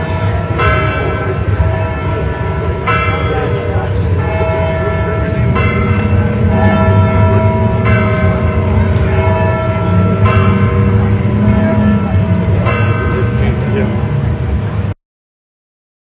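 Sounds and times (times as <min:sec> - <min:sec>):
church bells ringing: 0:00.0 - 0:14.9
steady low rumble: 0:00.0 - 0:15.0.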